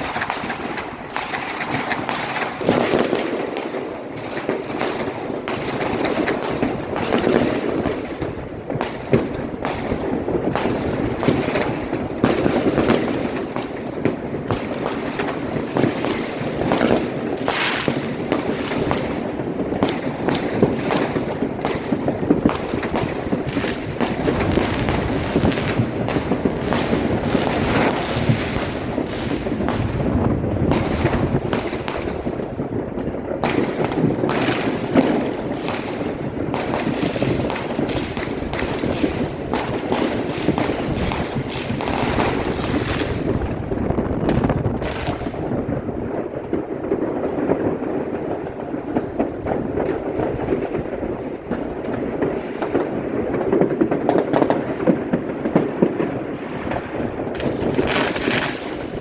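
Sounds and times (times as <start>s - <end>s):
firecrackers crackling and banging: 0.0s - 59.0s.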